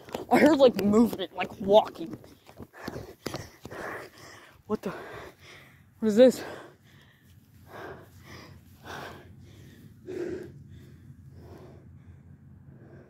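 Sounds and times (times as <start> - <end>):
person breathing hard: 2.2 - 13.0.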